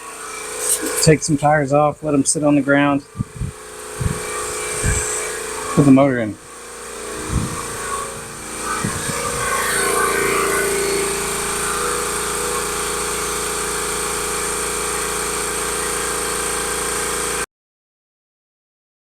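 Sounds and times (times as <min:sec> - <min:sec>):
motor whining: 0:00.0 - 0:17.4.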